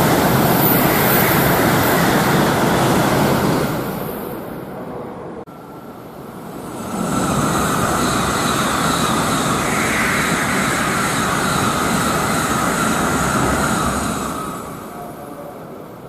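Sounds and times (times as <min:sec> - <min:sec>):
high-speed train rushing past: 0:00.0 - 0:16.0.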